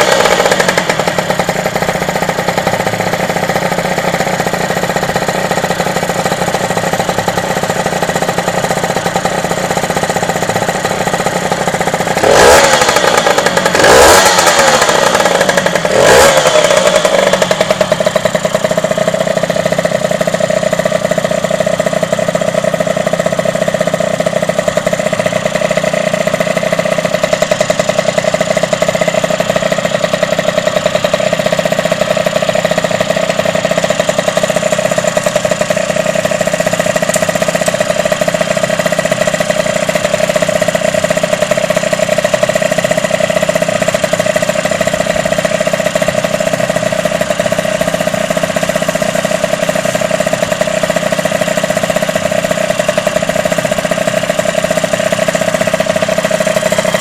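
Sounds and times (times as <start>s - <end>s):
motorcycle engine revving: 0.0s - 57.0s
two-stroke motorcycle engine idling: 0.0s - 57.0s.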